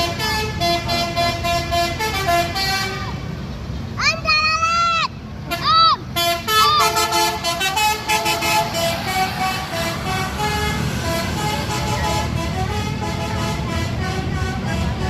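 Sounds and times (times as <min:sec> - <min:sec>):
bus horn playing a tune: 0:00.0 - 0:03.2, 0:05.5 - 0:15.0
bus engine running: 0:00.0 - 0:15.0.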